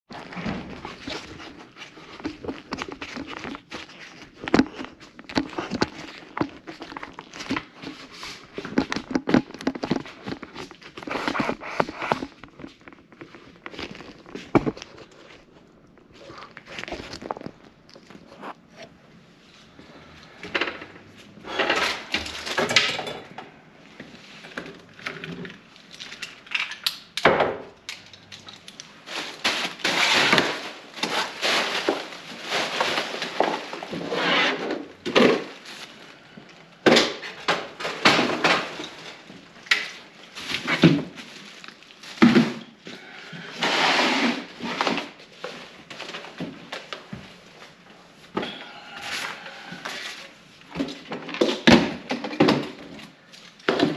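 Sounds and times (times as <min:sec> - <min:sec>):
objects being handled and moved: 0:00.1 - 0:53.9.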